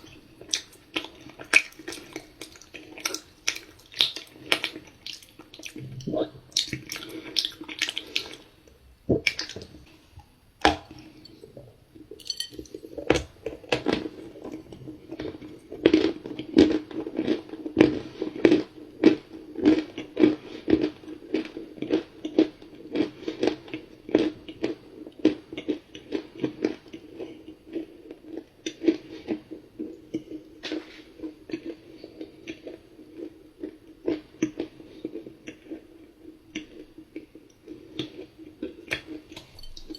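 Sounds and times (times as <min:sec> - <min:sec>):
person crunching and chewing cookie: 0:00.0 - 0:39.9.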